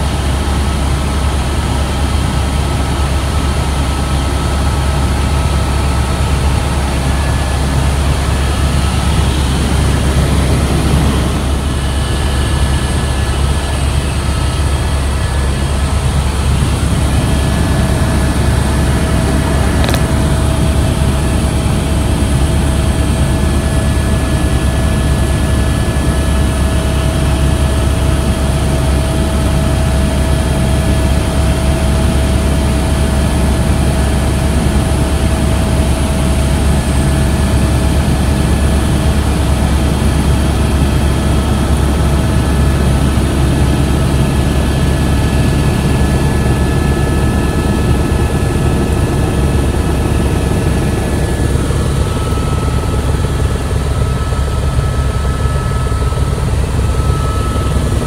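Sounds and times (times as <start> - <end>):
helicopter rotor and engine drone: 0.0 - 58.0
helicopter whine: 0.0 - 58.0.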